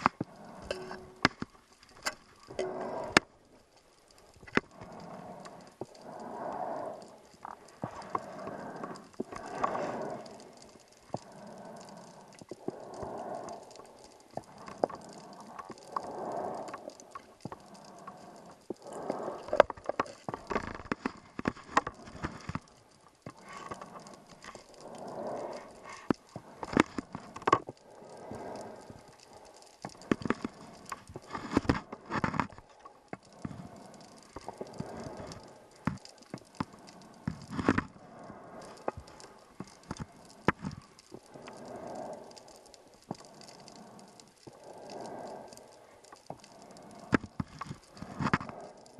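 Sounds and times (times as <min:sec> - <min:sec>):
crackling exhaust bubbles: 0:00.0 - 0:48.9
diver breathing through regulator: 0:04.7 - 0:22.6, 0:23.3 - 0:48.9.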